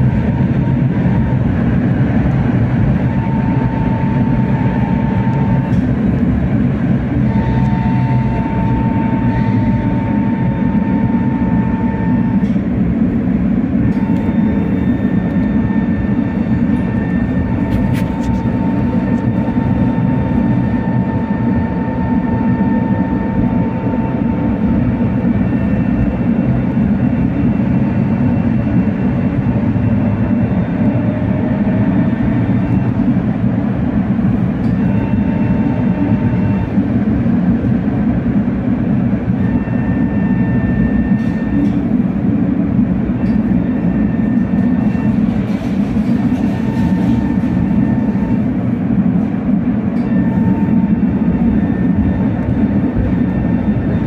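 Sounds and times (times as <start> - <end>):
faint whine: 0.0 - 54.0
tram wheels rumbling on rails: 0.0 - 54.0.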